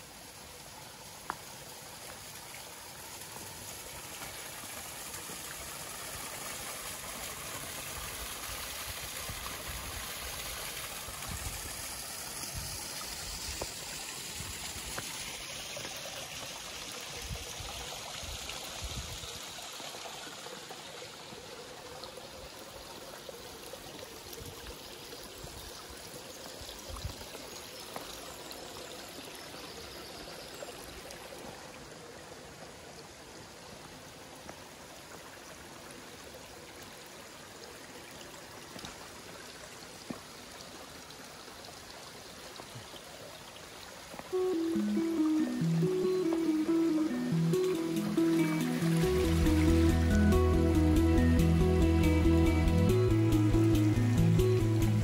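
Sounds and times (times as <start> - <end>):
stream trickling over stones: 0.0 - 51.0.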